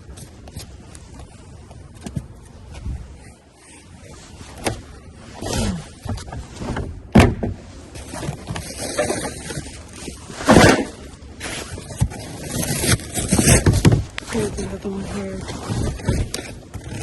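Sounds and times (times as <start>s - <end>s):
rustling and scraping trash: 0.0s - 17.0s.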